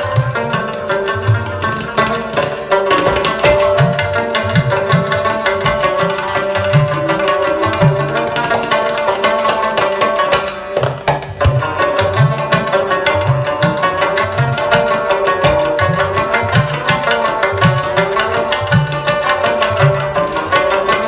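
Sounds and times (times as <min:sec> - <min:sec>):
folk music: 0:00.0 - 0:21.0
hand drum beats: 0:00.0 - 0:21.0
plucked strings: 0:00.0 - 0:21.0.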